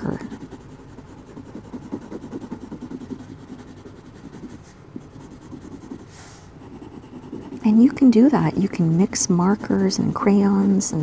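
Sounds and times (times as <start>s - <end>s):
pencil shading on paper: 0.0s - 11.0s.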